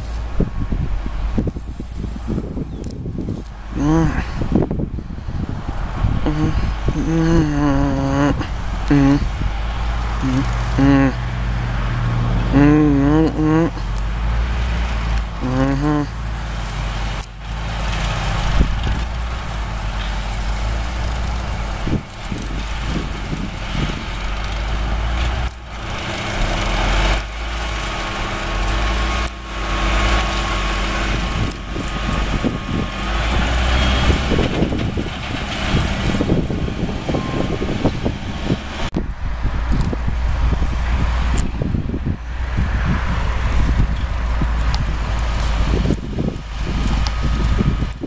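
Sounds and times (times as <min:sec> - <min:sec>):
diesel engines rumbling: 0:00.0 - 0:48.0.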